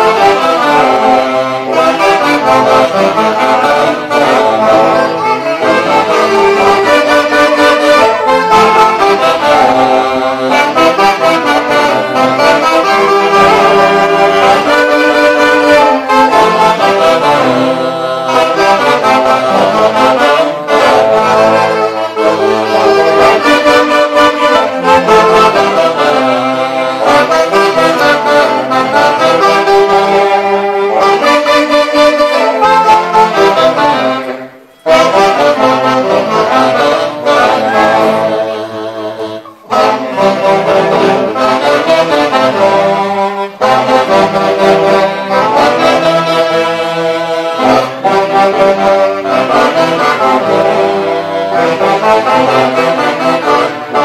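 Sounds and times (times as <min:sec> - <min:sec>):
saxophone band playing dance tune: 0:00.0 - 0:54.0.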